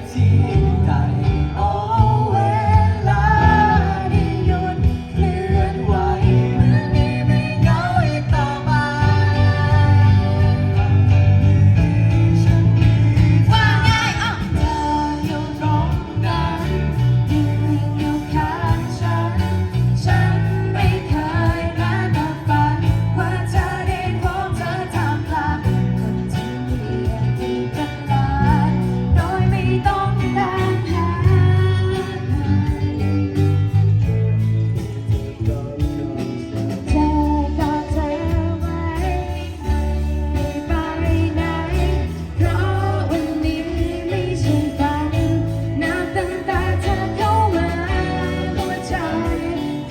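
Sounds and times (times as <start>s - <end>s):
band playing a song: 0.0s - 49.9s
person singing: 0.0s - 49.9s
steady bass: 0.0s - 49.9s.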